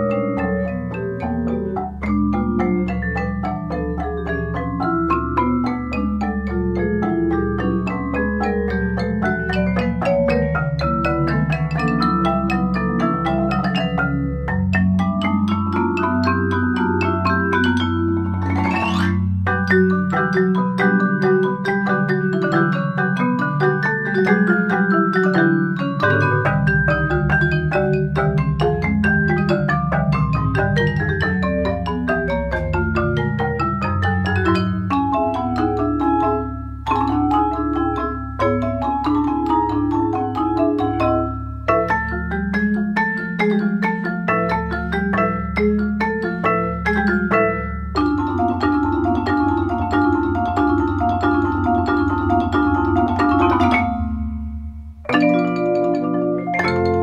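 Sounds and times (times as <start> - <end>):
mallet percussion tango: 0.0 - 57.0.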